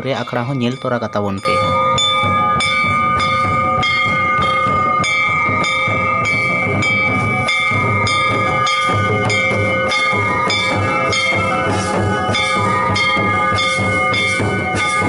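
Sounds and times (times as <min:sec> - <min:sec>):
high ringing tone: 0:00.0 - 0:15.0.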